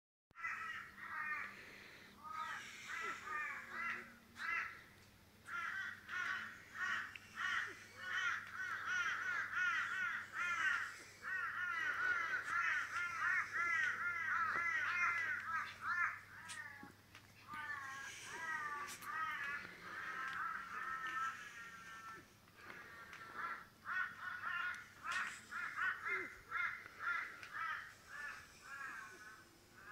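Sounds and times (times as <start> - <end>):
birds calling: 0.4 - 29.9.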